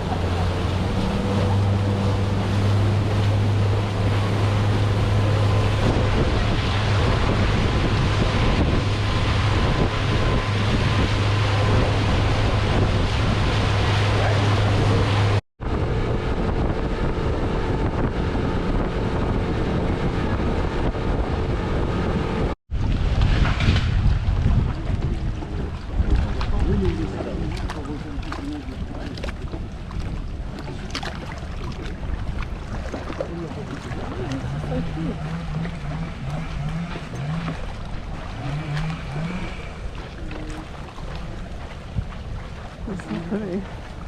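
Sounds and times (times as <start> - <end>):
rushing water: 0.0 - 16.5, 21.6 - 44.0
motorboat engine drone: 0.0 - 44.0
wind buffeting microphone: 0.0 - 44.0.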